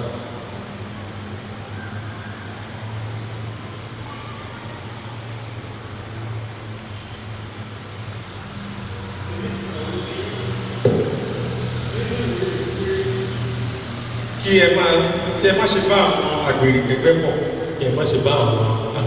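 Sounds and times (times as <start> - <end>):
faint background noise: 0.0 - 19.0
low machine hum: 0.0 - 19.0.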